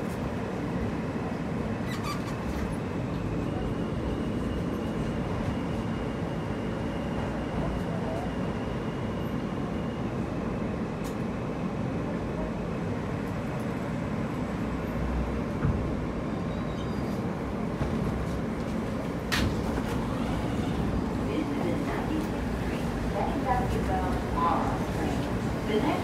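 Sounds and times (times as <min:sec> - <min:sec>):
low rumble of subway car: 0:00.0 - 0:26.0.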